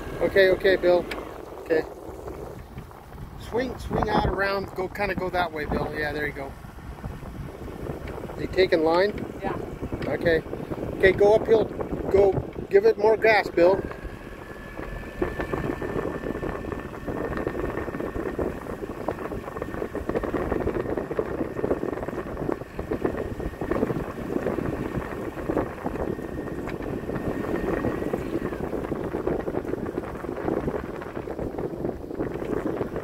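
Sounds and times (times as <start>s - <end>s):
boat motor running: 0.0s - 33.0s
wind buffeting microphone: 0.0s - 33.0s.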